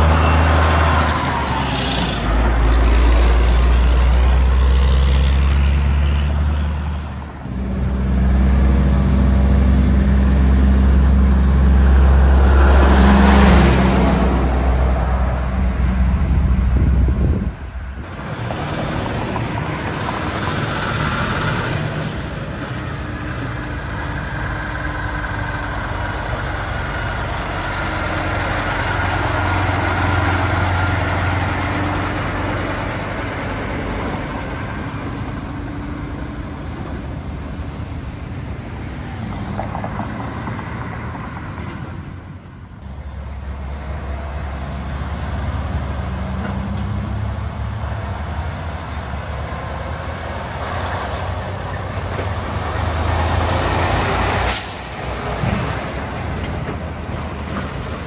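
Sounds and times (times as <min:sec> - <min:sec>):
heavy truck engine rumbling: 0:00.0 - 0:58.0
road traffic passing: 0:00.0 - 0:58.0.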